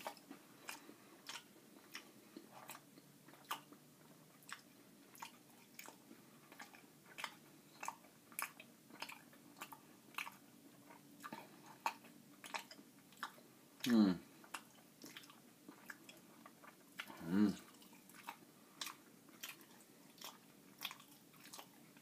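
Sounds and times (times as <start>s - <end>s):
mouth chewing granola bar: 0.0s - 22.0s.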